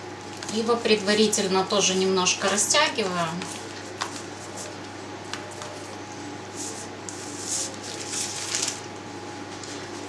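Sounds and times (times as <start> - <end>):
low steady hum: 0.0 - 10.0
pastry rustling on baking paper: 0.2 - 10.0.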